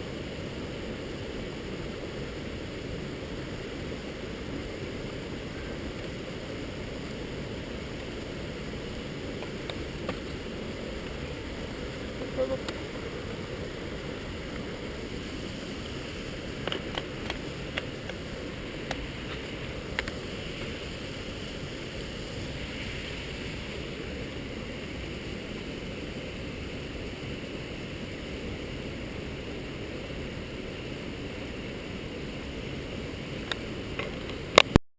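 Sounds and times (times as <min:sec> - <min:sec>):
waterfall rushing: 0:00.0 - 0:34.8.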